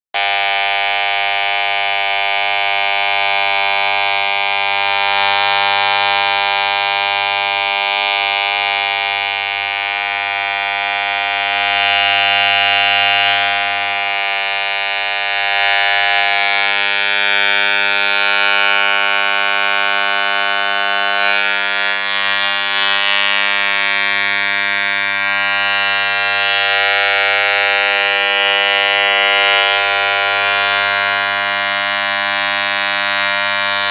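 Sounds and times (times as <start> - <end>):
electric hair clipper buzzing: 0.2 - 33.9.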